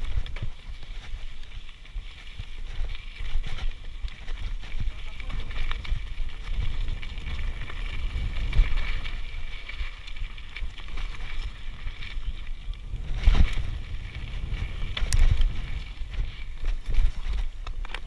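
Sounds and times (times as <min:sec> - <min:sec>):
bike tyre and frame rattle: 0:00.0 - 0:18.0
wind on microphone: 0:00.0 - 0:18.0.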